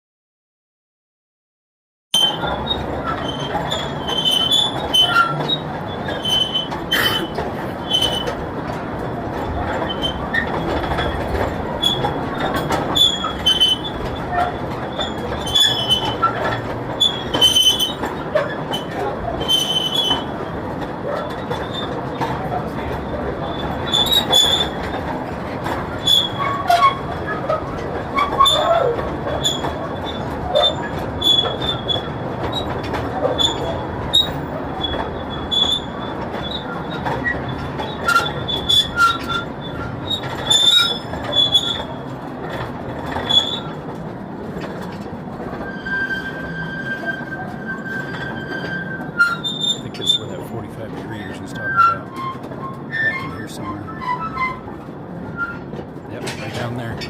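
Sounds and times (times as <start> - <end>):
train rumbling on rails: 2.2 - 57.0
wheels squealing: 2.2 - 57.0.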